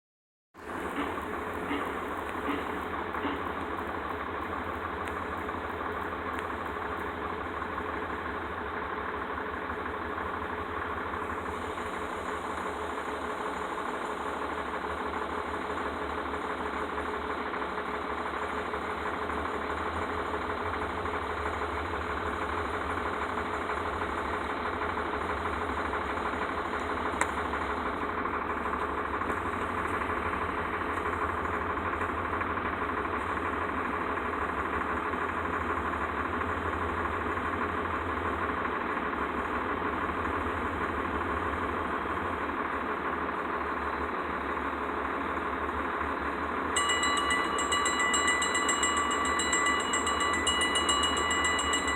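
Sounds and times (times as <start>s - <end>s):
engine idling: 0.6s - 51.9s.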